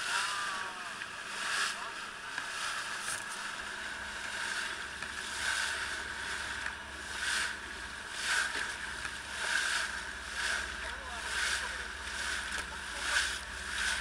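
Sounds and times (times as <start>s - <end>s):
boat engine drone: 0.0s - 14.0s
water splashing along hull: 0.0s - 14.0s.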